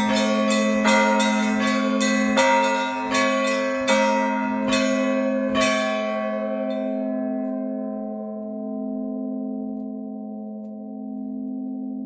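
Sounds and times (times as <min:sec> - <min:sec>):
church bells ringing: 0:00.0 - 0:12.0
deep bell hum: 0:00.0 - 0:12.0.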